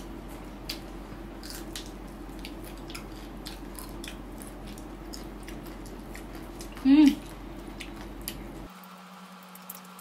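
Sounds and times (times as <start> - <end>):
low steady hum: 0.0 - 10.0
people eating crispy chicken: 0.3 - 8.7.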